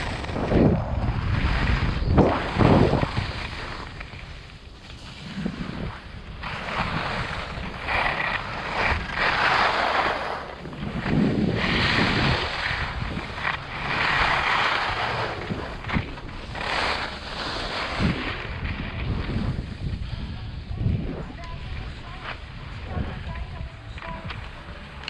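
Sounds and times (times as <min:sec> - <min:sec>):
skis hissing and scraping on snow: 0:00.0 - 0:23.4
wind buffeting microphone: 0:00.0 - 0:25.0.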